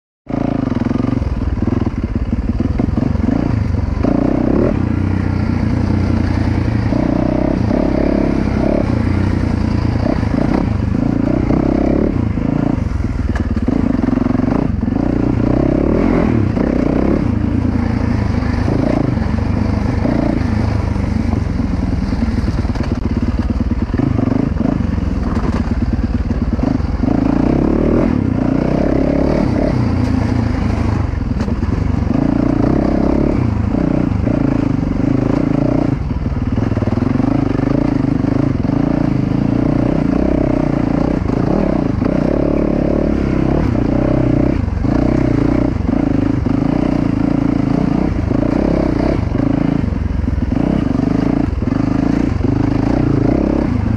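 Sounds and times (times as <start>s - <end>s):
motorcycle engine revving: 0.3s - 53.9s.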